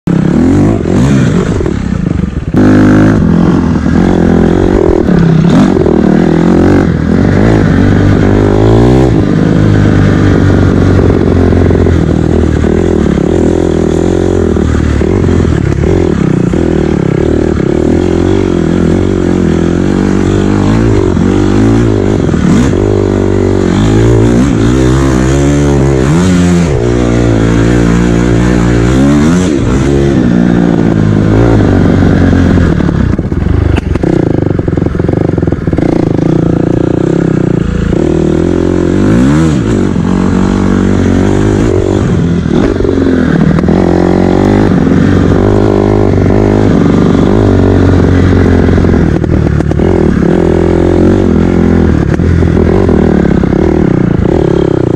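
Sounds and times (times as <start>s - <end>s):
dirt bike engine revving: 0.1s - 54.9s.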